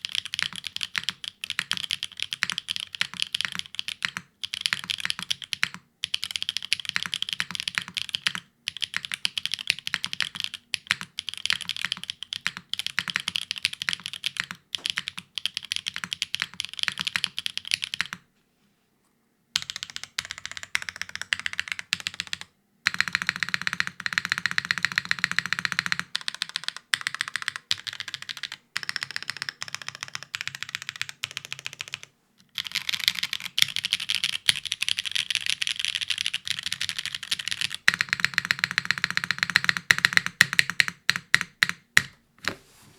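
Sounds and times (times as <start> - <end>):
mechanical keyboard typing: 0.0 - 18.2, 19.6 - 42.2.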